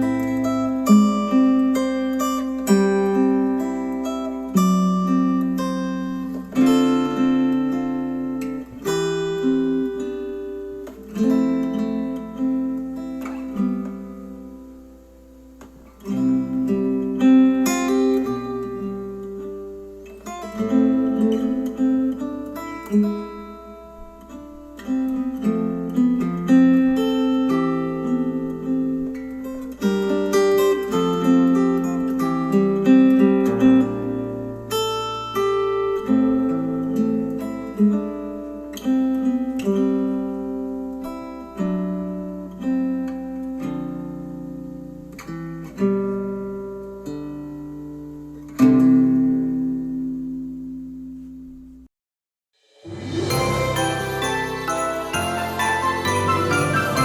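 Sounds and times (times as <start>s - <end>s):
acoustic guitar music: 0.0s - 51.9s, 52.8s - 57.0s.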